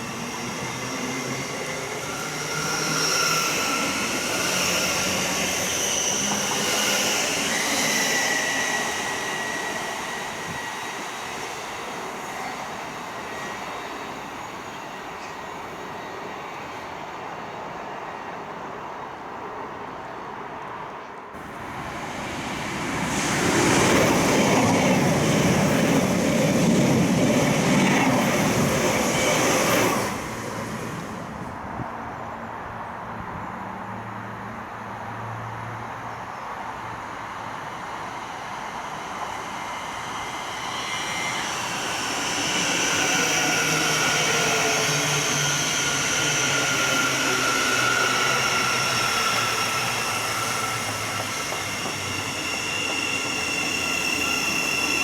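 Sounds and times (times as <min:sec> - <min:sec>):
train whining with high tones: 0:00.0 - 0:20.1, 0:20.8 - 0:32.4, 0:34.8 - 0:55.0
passenger train rushing past: 0:00.0 - 0:55.0.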